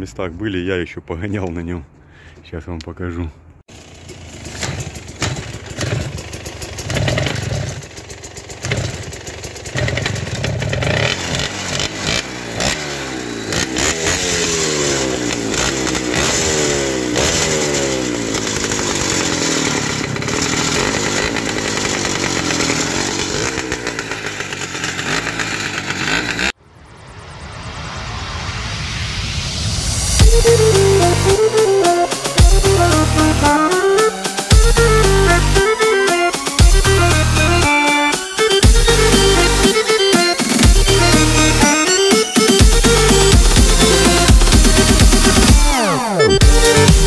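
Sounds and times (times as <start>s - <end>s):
small petrol engine revving: 3.7s - 26.6s, 30.3s - 47.0s.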